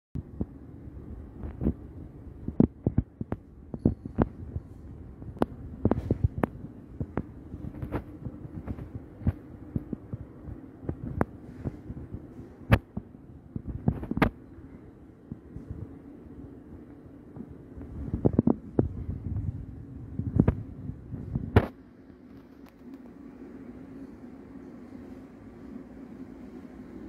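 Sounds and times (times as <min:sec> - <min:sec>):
steady low hum: 0:00.2 - 0:27.0.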